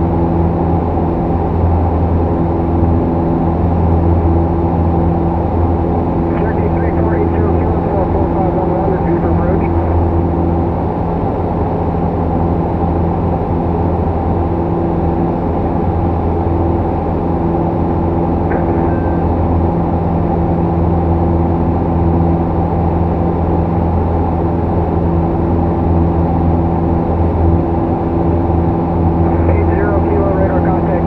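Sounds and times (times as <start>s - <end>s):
airplane engine droning: 0.0s - 31.0s.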